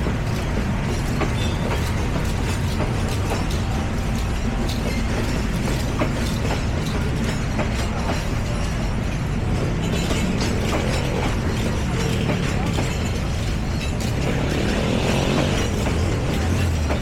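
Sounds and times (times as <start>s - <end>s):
train rumbling on track: 0.0s - 17.0s
wheels clicking on rails: 0.0s - 17.0s.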